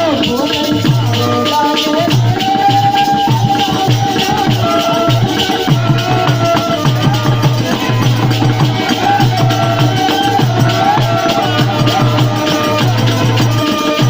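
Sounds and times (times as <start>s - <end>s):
shaker rattle: 0.0s - 14.0s
steady drum beat: 0.0s - 14.0s.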